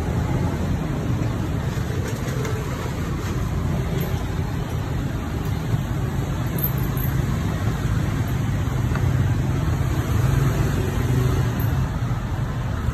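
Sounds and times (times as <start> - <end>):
engine-like hum: 0.0 - 12.9
street traffic rumble: 0.0 - 12.9.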